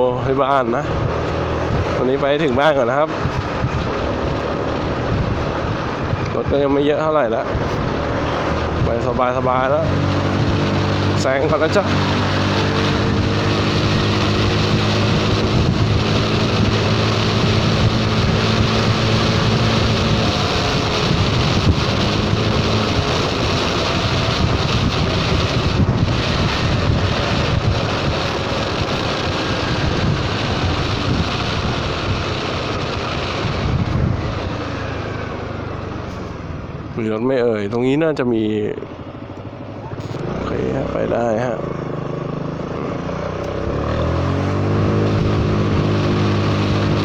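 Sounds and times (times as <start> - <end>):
wind rushing over microphone: 0.0 - 47.0
scooter engine running: 0.6 - 6.8, 7.5 - 37.0, 38.8 - 47.0.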